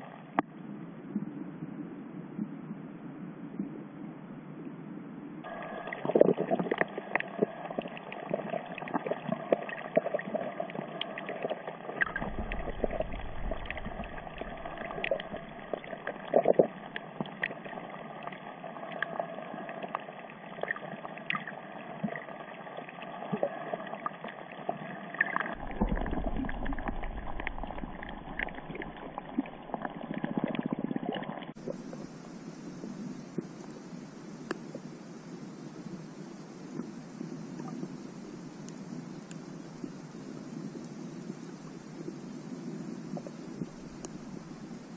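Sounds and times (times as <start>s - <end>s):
low rumbles of water movement: 0.0s - 44.9s
muffled underwater water wash: 0.0s - 44.9s
sharp underwater clicks and crackles: 5.4s - 35.0s, 37.6s - 44.9s.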